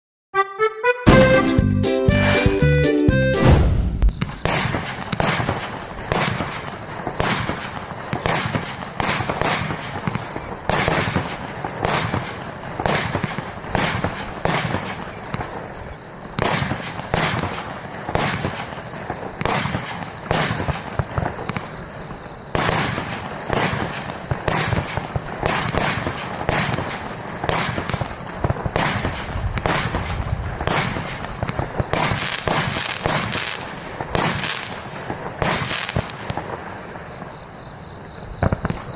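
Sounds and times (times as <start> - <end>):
firework cake sharp reports: 0.6 - 36.5
rush of small firework shots: 3.5 - 37.5, 38.1 - 38.9.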